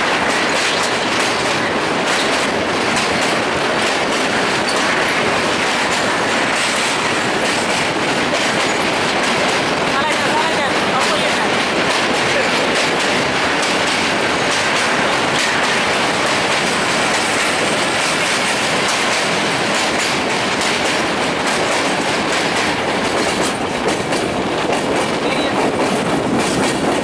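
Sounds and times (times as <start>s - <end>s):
faint clickety-clack over rail joints: 0.0s - 27.0s
rush of train wheels on rails: 0.0s - 27.0s.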